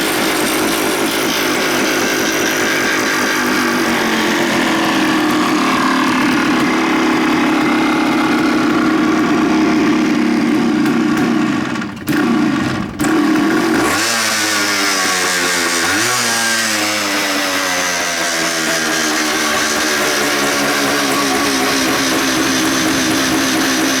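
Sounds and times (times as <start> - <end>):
two-stroke engine running: 0.0 - 24.0.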